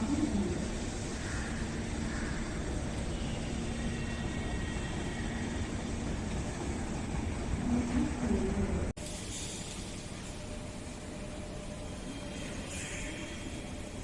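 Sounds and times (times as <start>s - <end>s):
train rumbling with faint whine: 0.0s - 14.0s.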